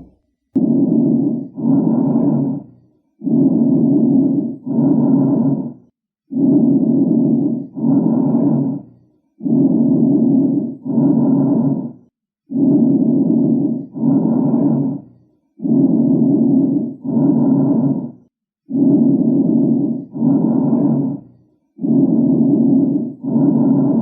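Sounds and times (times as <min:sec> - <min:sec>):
lung breath sounds: 0:00.0 - 0:24.0.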